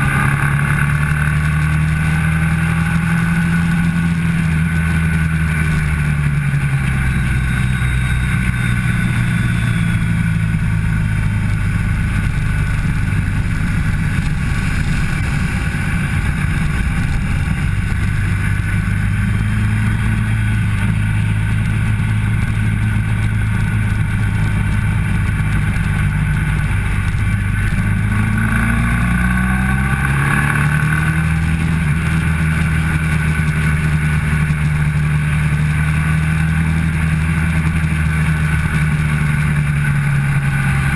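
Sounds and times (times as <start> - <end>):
wind noise: 0.0 - 35.3
motorcycle engine running hard: 0.0 - 40.9.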